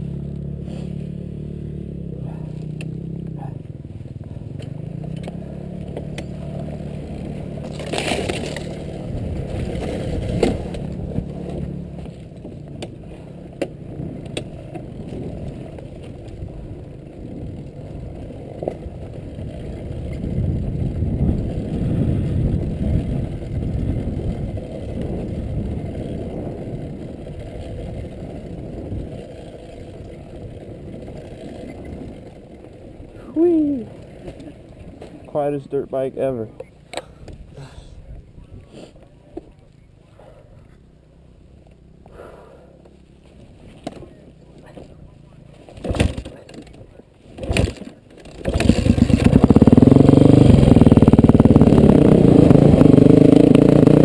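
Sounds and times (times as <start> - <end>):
dirt bike engine running: 0.0 - 38.4, 47.0 - 54.0
bike rolling over rough dirt: 0.1 - 37.5, 39.0 - 54.0.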